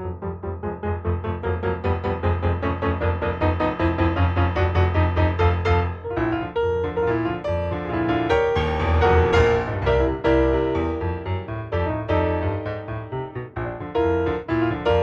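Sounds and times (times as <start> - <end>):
lively solo piano: 0.0 - 15.0.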